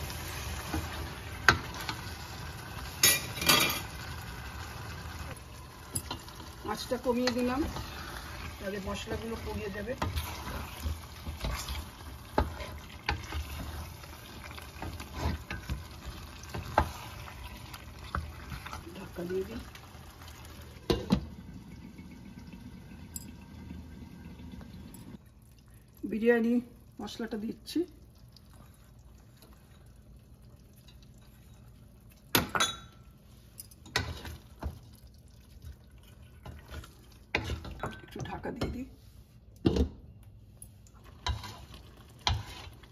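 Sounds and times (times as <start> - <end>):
food frying in oil: 0.0 - 33.2, 40.8 - 42.9.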